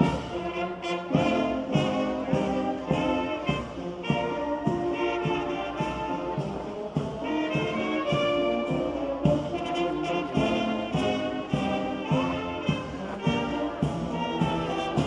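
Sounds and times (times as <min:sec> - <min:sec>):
brass band playing a march: 0:00.0 - 0:15.0
steady drum beat: 0:00.0 - 0:15.0.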